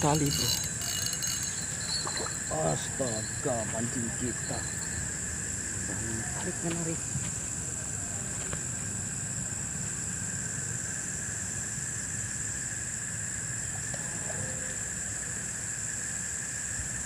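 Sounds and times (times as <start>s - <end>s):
low rumbling background noise: 0.0s - 17.0s
night insects trilling: 0.0s - 17.0s.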